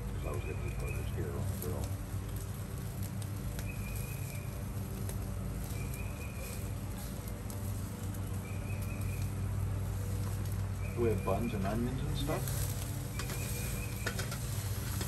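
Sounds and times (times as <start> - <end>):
food crackling on charcoal grill: 0.0 - 15.0
steady low hum: 0.0 - 15.0.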